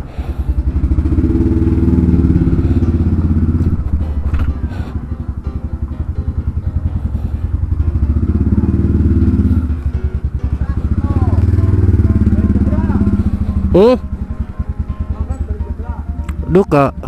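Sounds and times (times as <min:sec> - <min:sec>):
motorcycle engine pulling away: 0:00.0 - 0:17.0.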